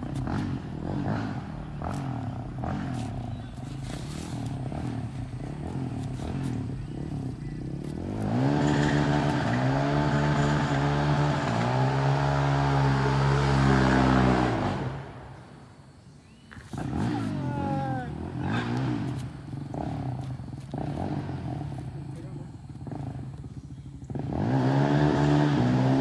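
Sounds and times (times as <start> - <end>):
motor vehicle engine revving: 0.0 - 26.0.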